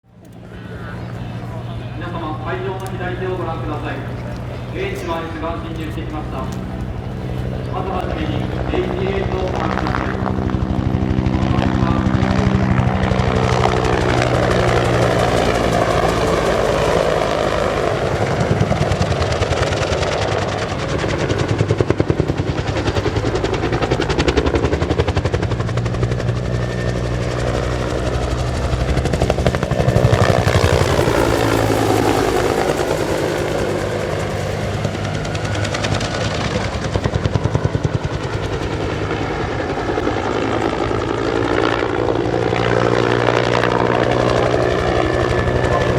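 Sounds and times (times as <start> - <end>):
helicopter rotor beating: 0.0 - 45.9.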